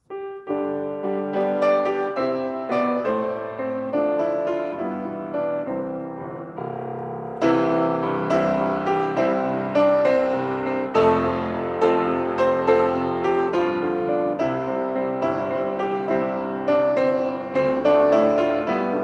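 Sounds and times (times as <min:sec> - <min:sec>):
piano playing hymn chords: 0:00.0 - 0:19.0.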